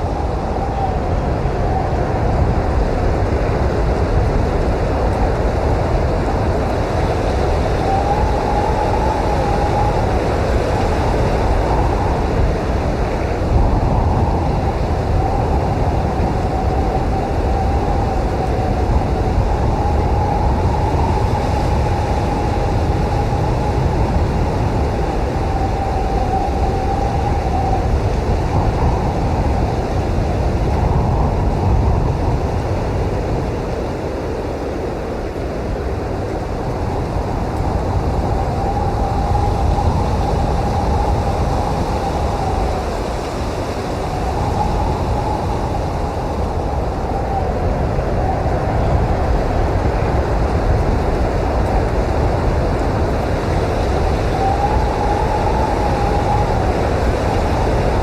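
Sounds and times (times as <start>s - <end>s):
blizzard wind rumbling: 0.0s - 58.0s.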